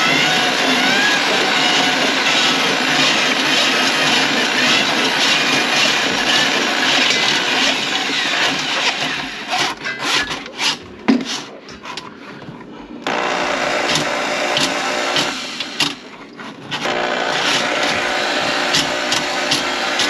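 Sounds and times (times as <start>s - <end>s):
drain auger scraping and grinding: 0.0s - 20.0s.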